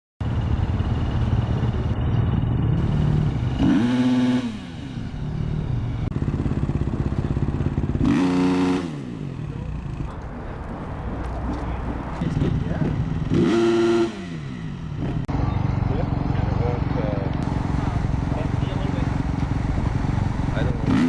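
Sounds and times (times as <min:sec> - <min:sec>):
motorcycle engine idling and revving: 0:00.2 - 0:21.0.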